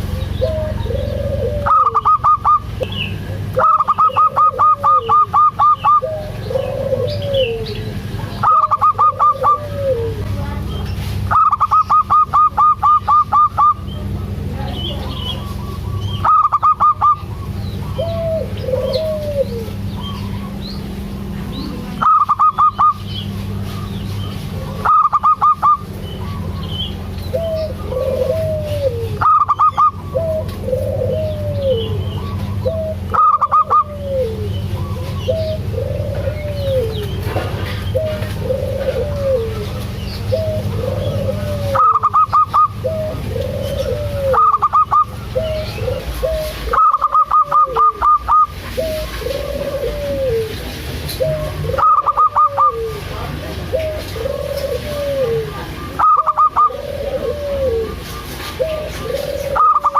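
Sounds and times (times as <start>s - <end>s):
dove cooing: 0.0s - 59.9s
steady low hum: 0.0s - 59.9s.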